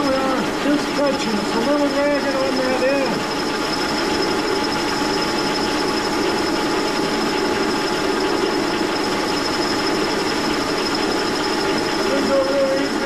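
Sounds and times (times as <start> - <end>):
milling machine cutting with whine: 0.0 - 13.0.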